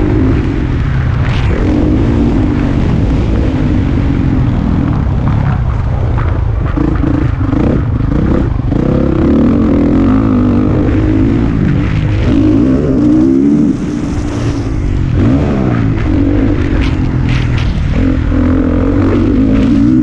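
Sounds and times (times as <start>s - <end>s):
motocross bike engine revving: 0.0s - 20.0s
wind rumble on microphone: 0.0s - 20.0s.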